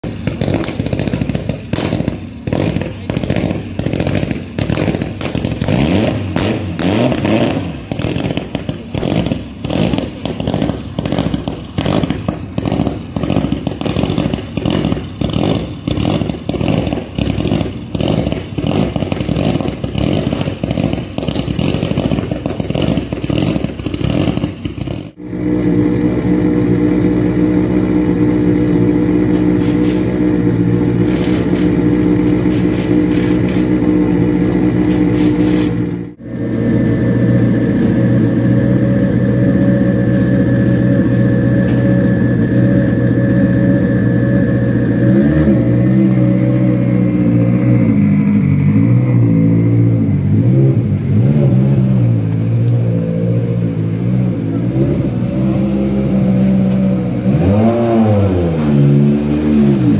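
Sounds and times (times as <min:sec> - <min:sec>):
rally car engine running rough: 0:00.0 - 0:59.9.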